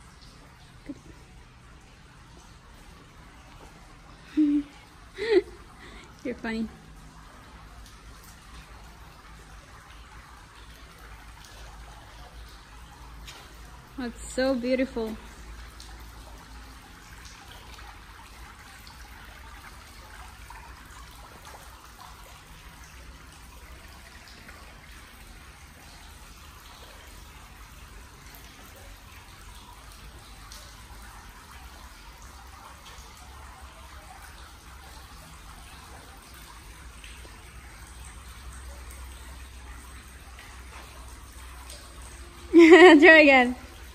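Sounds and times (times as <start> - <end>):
trickle of running water: 0.0 - 43.9.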